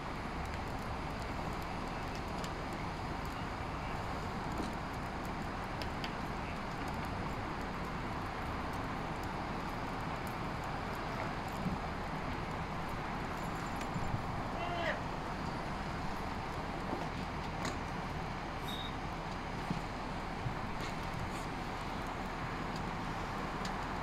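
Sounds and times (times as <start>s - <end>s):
car fire flames rushing: 0.0s - 24.0s
fire crackles and pops: 0.0s - 24.0s.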